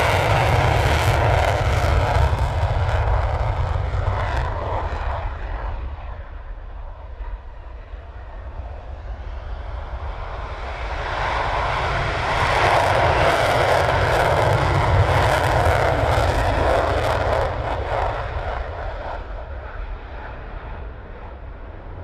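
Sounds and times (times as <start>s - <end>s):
deep rumble: 0.0s - 8.0s, 11.2s - 22.0s
jet engine roar: 0.0s - 22.0s.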